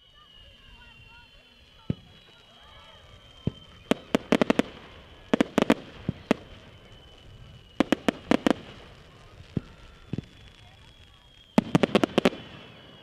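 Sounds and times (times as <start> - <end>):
fireworks cracks and bangs: 0.1 - 13.0.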